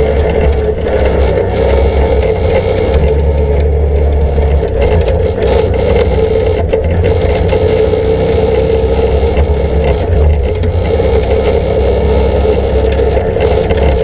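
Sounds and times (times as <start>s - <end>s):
atv engine running: 0.0s - 14.0s
scraping and rattling: 0.0s - 14.0s.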